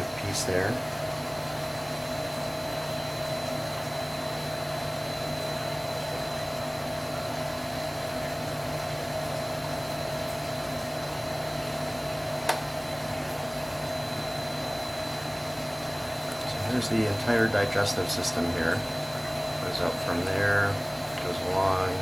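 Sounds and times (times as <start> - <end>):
fan motor hissing and humming: 0.0 - 22.0.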